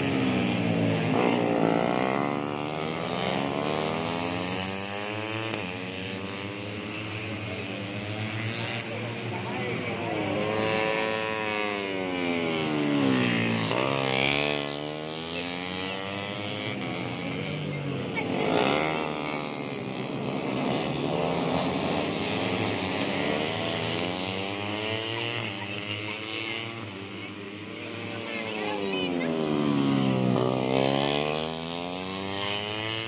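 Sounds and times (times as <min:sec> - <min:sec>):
motorcycles racing at high revs: 0:00.0 - 0:33.0.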